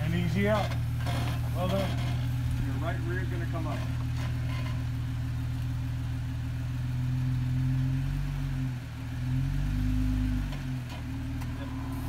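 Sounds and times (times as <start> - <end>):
engine pulling at low revs: 0.0 - 12.0.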